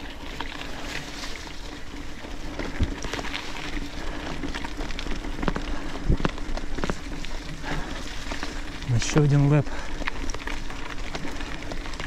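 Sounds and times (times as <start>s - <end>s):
bike knocking over bumps: 0.0s - 12.0s
bike tyres crackling on wet dirt: 0.0s - 12.0s.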